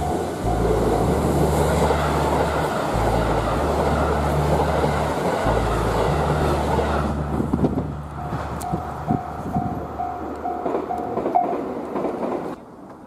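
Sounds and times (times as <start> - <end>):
rolling wheel noise: 0.0 - 12.6
diesel train passing: 0.0 - 13.0.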